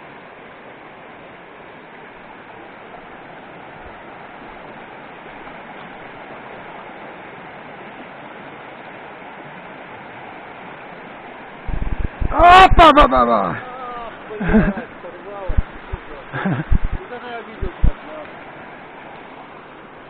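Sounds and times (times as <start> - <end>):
stream flowing over stones: 0.0 - 20.0.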